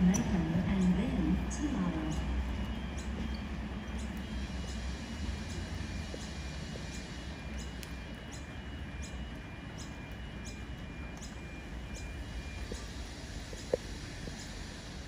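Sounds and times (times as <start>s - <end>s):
diesel railcar rumbling: 0.0s - 15.0s.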